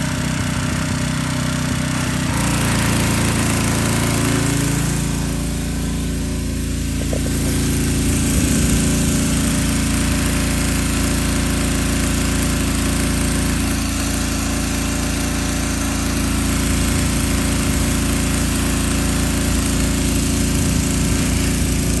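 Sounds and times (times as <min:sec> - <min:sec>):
pressure washer engine drone: 0:00.0 - 0:22.0
water jet hissing: 0:02.0 - 0:22.0.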